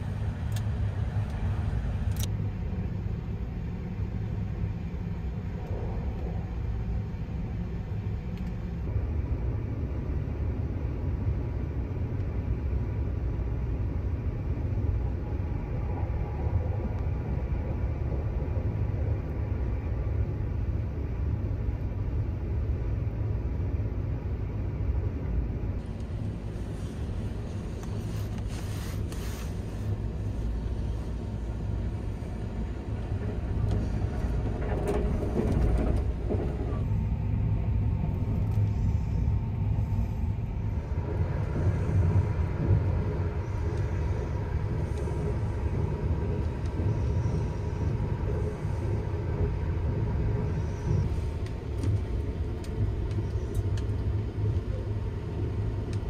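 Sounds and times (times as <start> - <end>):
faint steady hum: 0.0 - 56.0
train running low rumble: 0.0 - 56.0.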